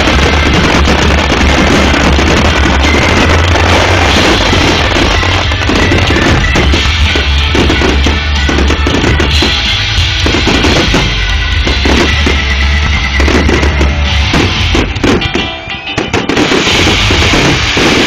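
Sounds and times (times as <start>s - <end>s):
deep rumble: 0.0s - 15.2s
fireworks booming: 0.0s - 18.0s.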